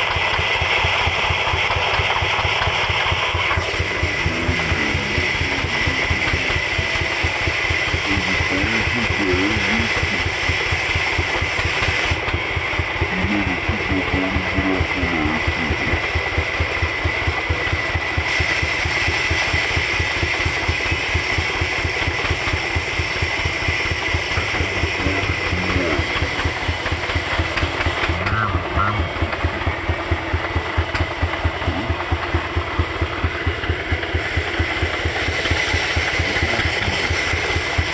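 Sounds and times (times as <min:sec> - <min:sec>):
diesel engine running: 0:00.0 - 0:37.9
steady high whine: 0:00.0 - 0:37.9.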